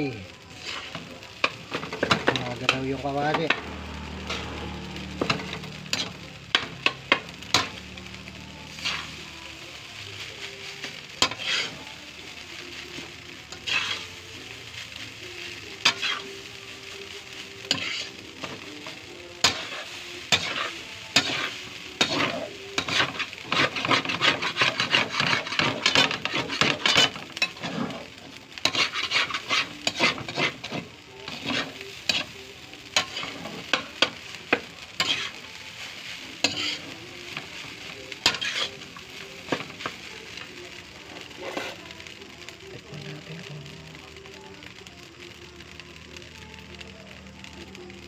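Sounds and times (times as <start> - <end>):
light sizzle: 0.0 - 48.0
metal spatula scraping a wok: 0.3 - 14.6, 15.2 - 40.5, 41.1 - 42.0.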